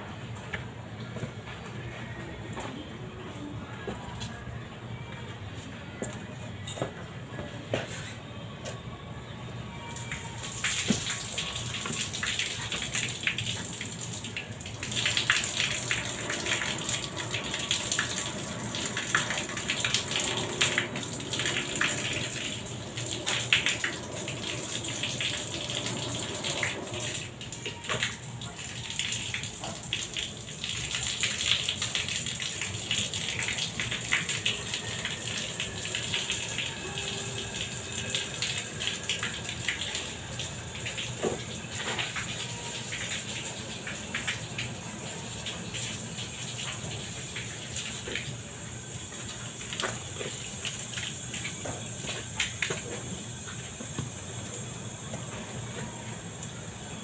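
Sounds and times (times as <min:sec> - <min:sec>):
hissing gushing liquid flow: 0:10.4 - 0:57.0.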